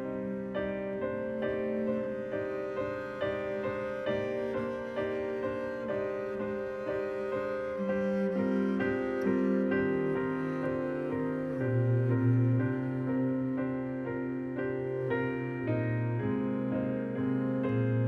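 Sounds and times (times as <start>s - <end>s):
violin long bowed notes: 0.0s - 16.6s
piano notes: 0.0s - 18.0s.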